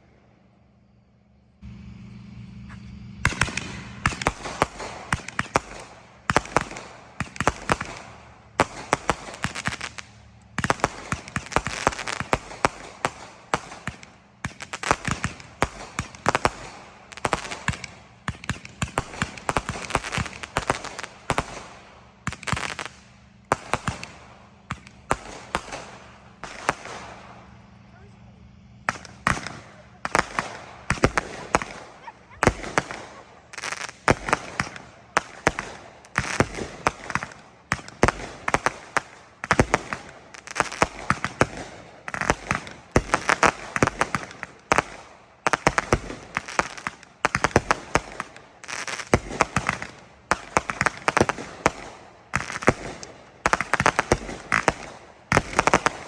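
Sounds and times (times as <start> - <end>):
fireworks banging and crackling: 1.6 - 56.0.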